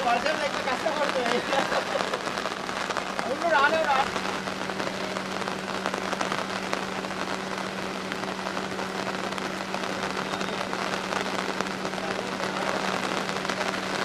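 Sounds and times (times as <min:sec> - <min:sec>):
low steady hum: 0:00.0 - 0:14.0
rain falling on a flooded street: 0:00.0 - 0:14.0.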